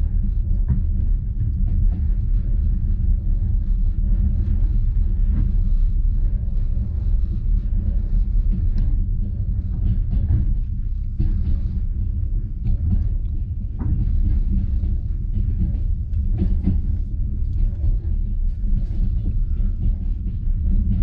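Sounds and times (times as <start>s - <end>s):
train carriage rumbling: 0.0s - 21.0s.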